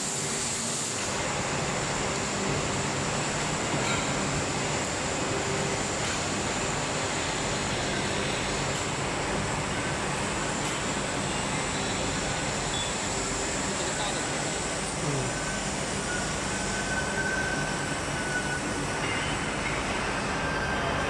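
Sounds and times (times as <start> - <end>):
factory machinery running: 0.0 - 21.0.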